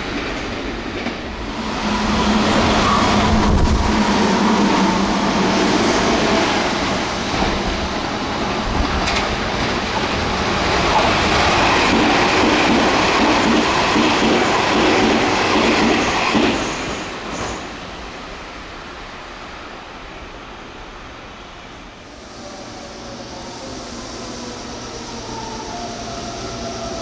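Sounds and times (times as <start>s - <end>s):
electric train passing at speed: 0.0s - 27.0s.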